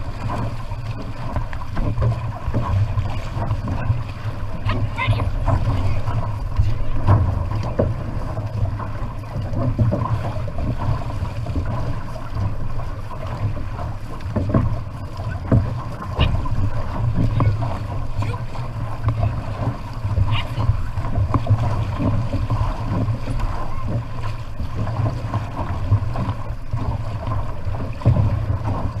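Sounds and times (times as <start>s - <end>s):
paddle stroke splashes: 0.0s - 29.0s
water splashing along canoe: 0.0s - 29.0s
wind buffeting microphone: 0.0s - 29.0s.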